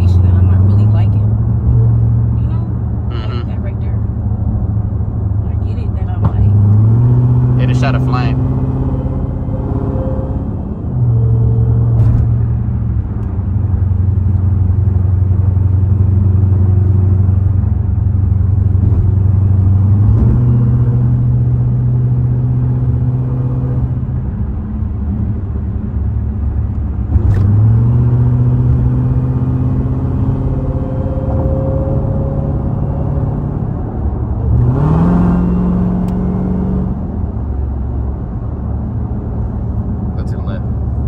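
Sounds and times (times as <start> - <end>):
car engine droning inside cabin: 0.0 - 41.0.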